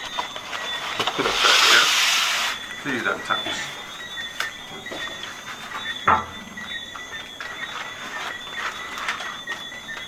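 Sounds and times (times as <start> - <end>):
night insects calling: 0.0 - 10.0.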